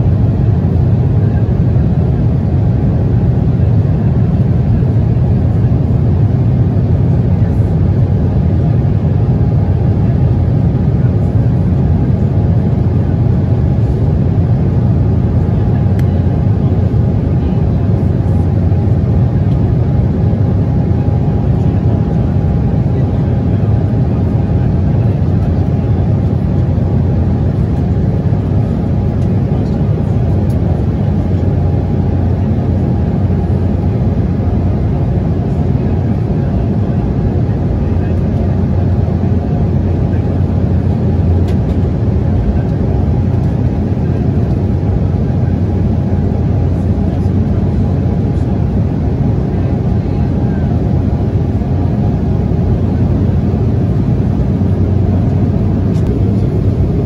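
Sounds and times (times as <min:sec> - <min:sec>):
airliner cabin engine noise: 0:00.0 - 0:57.0.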